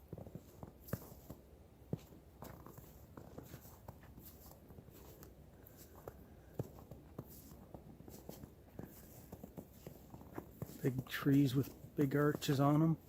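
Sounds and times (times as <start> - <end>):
footsteps on snow: 0.0 - 13.0.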